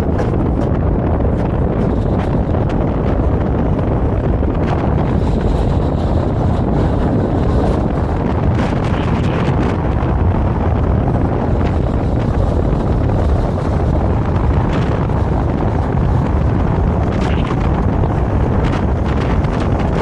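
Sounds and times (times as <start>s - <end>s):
tram rumbling: 0.0s - 20.0s
wind buffeting microphone: 0.0s - 20.0s.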